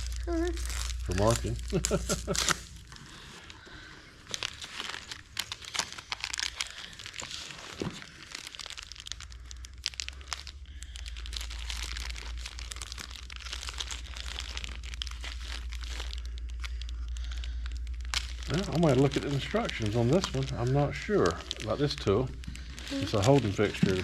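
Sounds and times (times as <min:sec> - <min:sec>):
low steady rumble: 0:00.0 - 0:24.0
packaging rustling and crinkling: 0:00.0 - 0:24.0
small clicks and crackles: 0:00.0 - 0:24.0.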